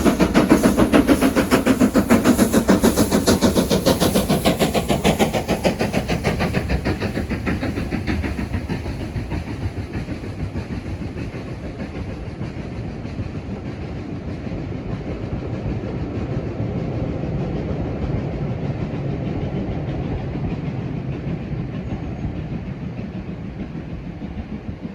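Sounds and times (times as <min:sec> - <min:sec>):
steam locomotive exhaust beats: 0:00.0 - 0:24.9
train coaches rumbling: 0:00.0 - 0:24.9.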